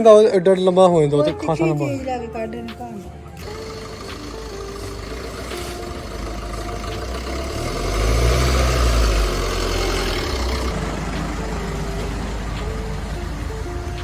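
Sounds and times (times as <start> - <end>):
background music: 0.0 - 14.0
vehicle engine rumble: 2.1 - 14.0.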